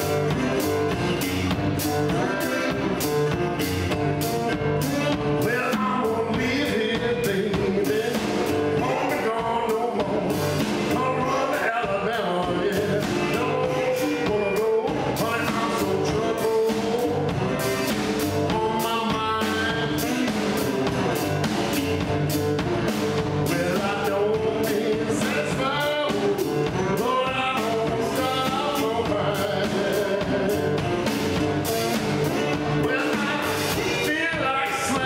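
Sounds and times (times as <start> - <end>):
man singing: 0.0 - 3.4, 4.5 - 21.8, 23.1 - 35.0.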